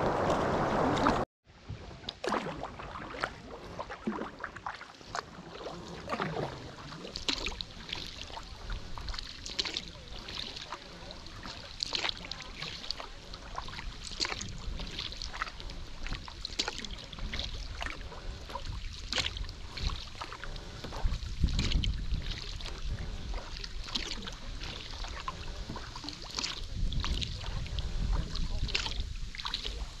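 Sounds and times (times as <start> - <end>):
wind rumble on microphone: 0.0 - 2.1, 5.8 - 30.0
paddle splashing in water: 0.0 - 30.0
water trickling off paddle blades: 0.0 - 30.0.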